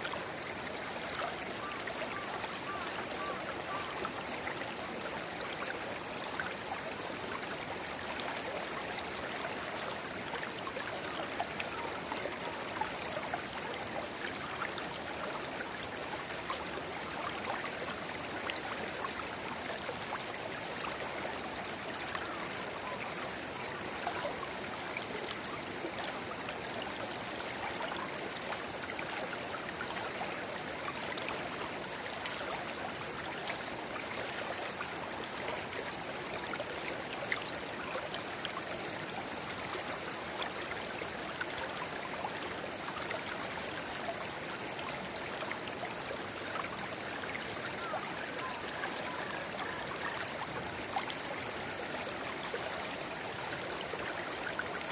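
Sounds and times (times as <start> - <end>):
river babbling over stones: 0.1 - 54.9.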